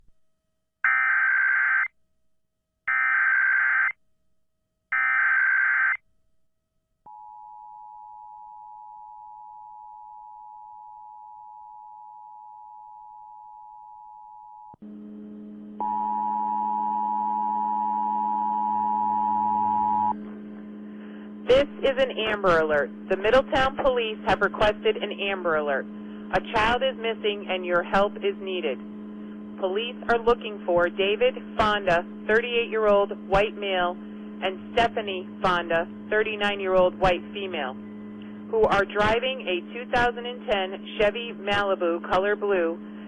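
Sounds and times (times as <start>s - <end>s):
low hum: 7.1s - 43.0s.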